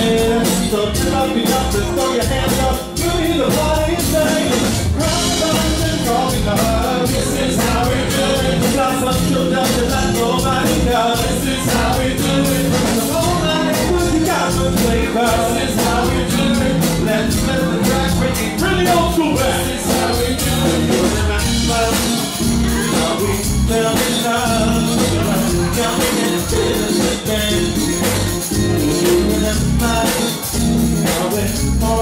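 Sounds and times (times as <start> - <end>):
live band playing dance song: 0.0 - 32.0
singers on microphones: 0.0 - 32.0.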